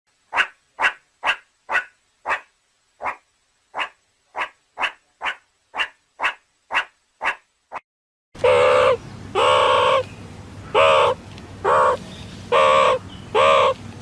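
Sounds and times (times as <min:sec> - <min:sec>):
meerkat calling: 0:00.3 - 0:07.8, 0:08.4 - 0:10.1, 0:10.7 - 0:13.8.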